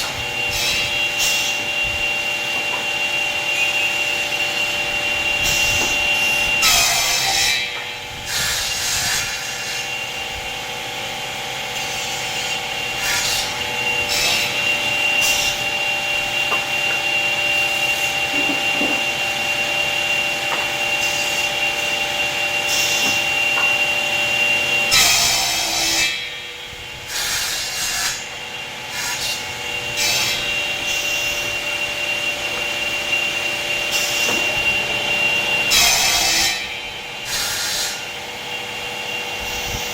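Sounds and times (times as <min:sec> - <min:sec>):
wood cutting noise: 0:00.0 - 0:39.9
woodworking machine whining: 0:00.0 - 0:39.9.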